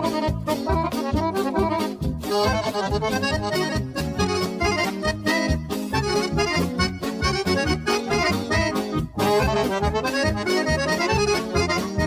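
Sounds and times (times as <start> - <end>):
accordion folk dance music: 0.0 - 12.0
steady bass beat: 0.0 - 12.0.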